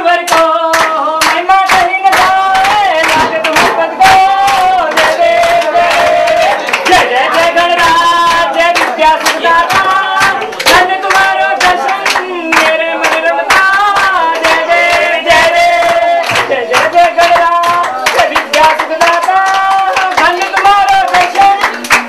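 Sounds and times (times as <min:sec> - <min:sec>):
hand clapping: 0:00.0 - 0:22.0
voices singing together: 0:00.0 - 0:22.0.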